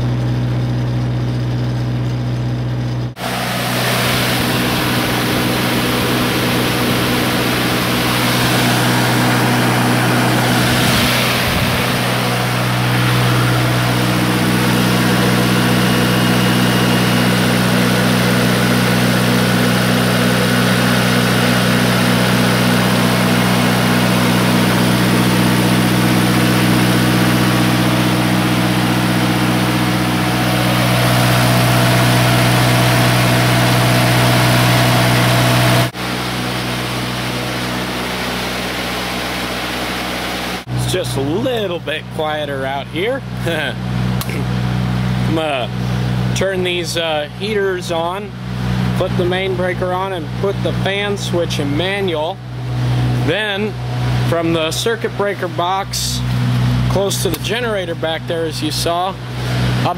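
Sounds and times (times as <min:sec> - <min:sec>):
diesel generator running: 0:00.0 - 0:59.9.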